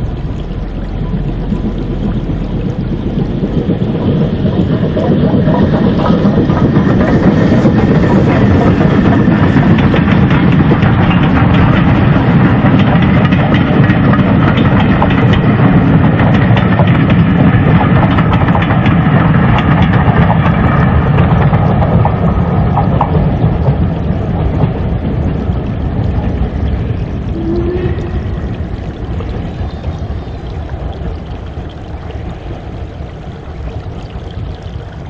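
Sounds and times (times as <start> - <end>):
steam locomotive hauling train: 0.0 - 35.0.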